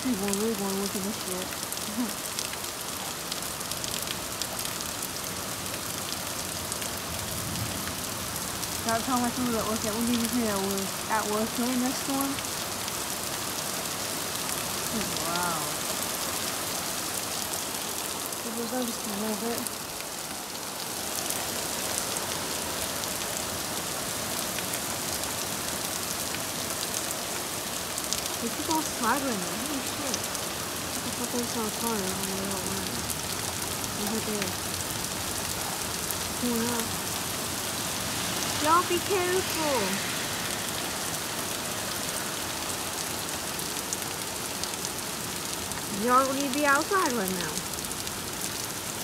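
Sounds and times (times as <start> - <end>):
raindrops tapping hard surfaces: 0.0 - 16.1, 17.1 - 49.0
heavy rain hissing: 0.0 - 49.0.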